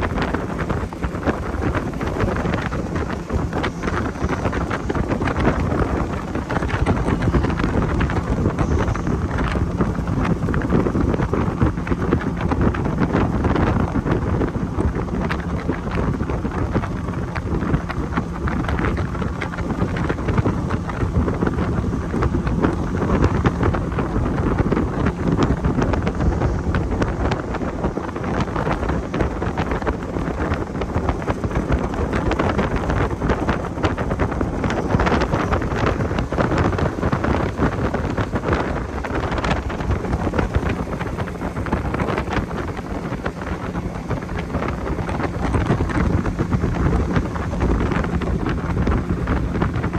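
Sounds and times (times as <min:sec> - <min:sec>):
boat motor droning: 0:00.0 - 0:49.9
wind buffeting microphone: 0:00.0 - 0:49.9.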